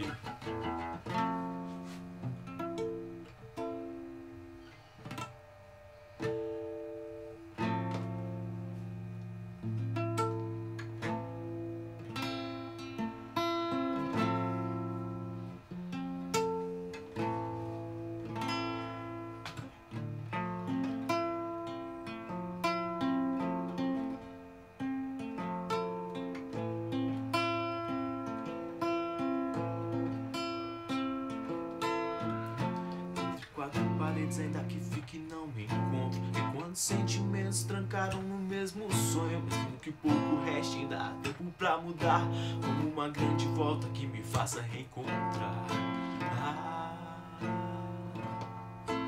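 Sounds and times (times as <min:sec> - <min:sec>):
solo acoustic guitar: 0:00.0 - 0:49.0.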